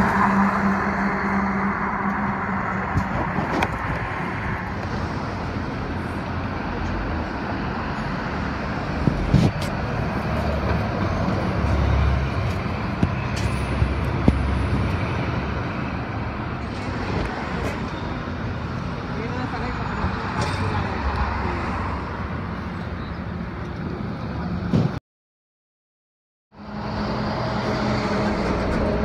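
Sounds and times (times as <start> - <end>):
bus engine rumble: 0.0 - 25.0, 26.6 - 29.0.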